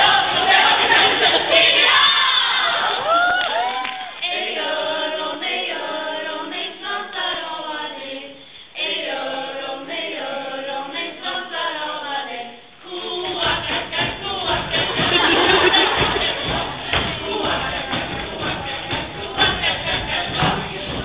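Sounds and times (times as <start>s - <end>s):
group singing unaccompanied: 0.0s - 3.2s, 4.1s - 21.0s.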